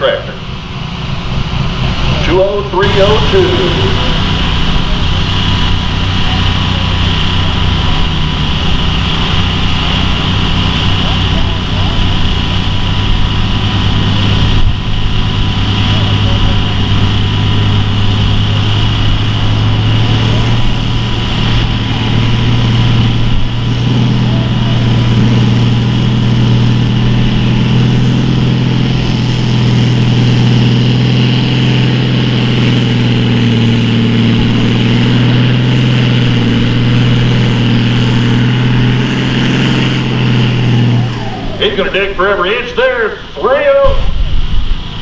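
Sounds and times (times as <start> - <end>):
tractor engine running under load: 0.0 - 45.0.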